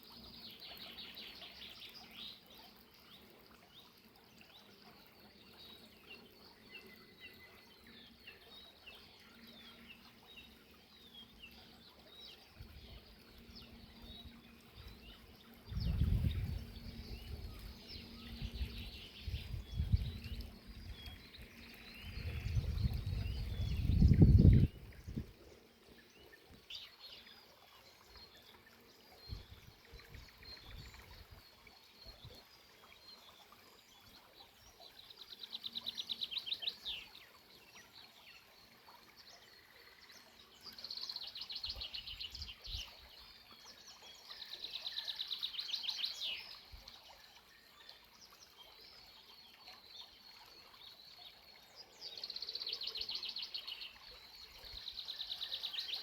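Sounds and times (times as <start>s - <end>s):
faint murmur of spring water: 0.0s - 56.0s.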